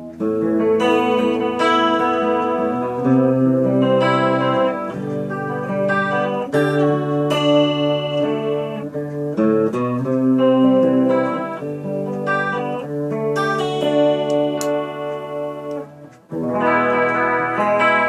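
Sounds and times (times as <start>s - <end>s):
guitar chords ringing: 0.0s - 18.0s.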